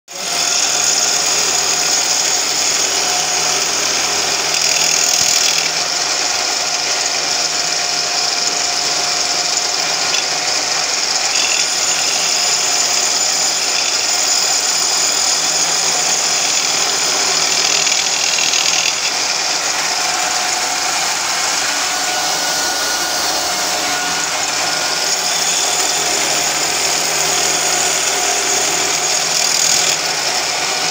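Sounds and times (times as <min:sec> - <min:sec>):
drill grinding: 0:00.1 - 0:30.9.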